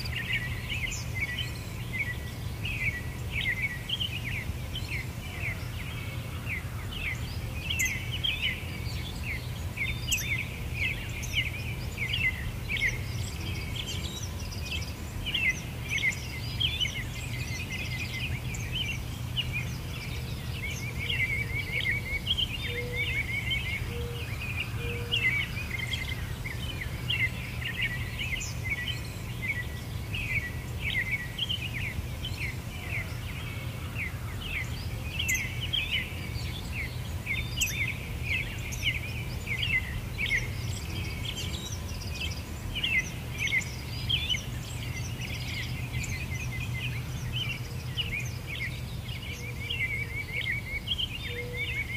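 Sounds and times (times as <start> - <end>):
small birds chirping and twittering: 0.0 - 51.9.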